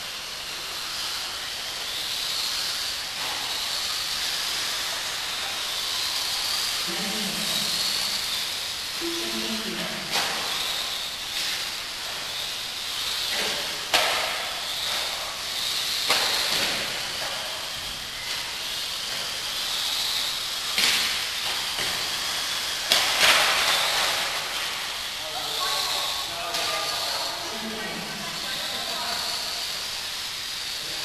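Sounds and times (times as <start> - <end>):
rc car motor whine and tyre hiss: 0.0 - 31.0.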